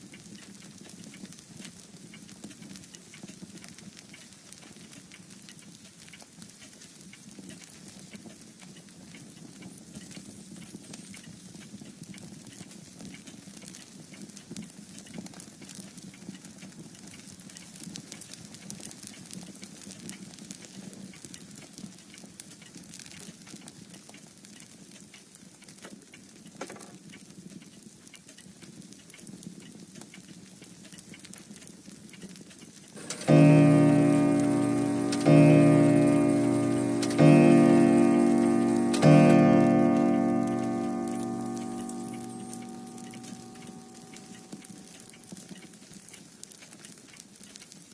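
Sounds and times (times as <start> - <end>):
low steady fire rumble: 0.0 - 47.9
wood fire crackling: 0.0 - 47.9.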